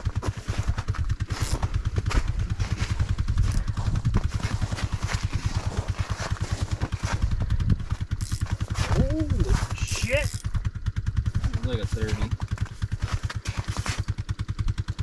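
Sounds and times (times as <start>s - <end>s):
ice auger engine running: 0.0s - 15.0s.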